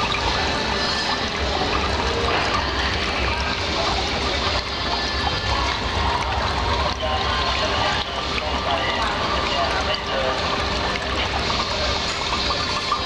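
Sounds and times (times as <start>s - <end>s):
fountain water trickling: 0.0s - 13.0s.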